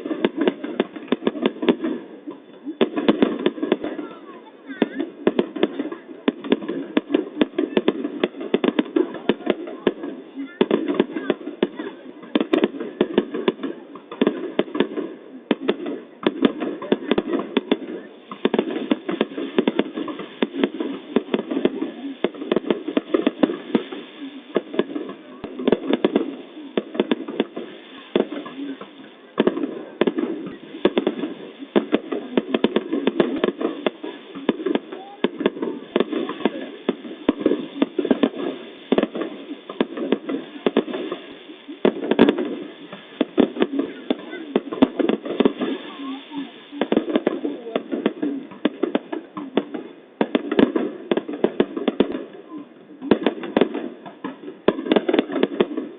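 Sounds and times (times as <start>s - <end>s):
fireworks bangs and crackles: 0.0s - 55.9s
voices: 0.0s - 55.9s.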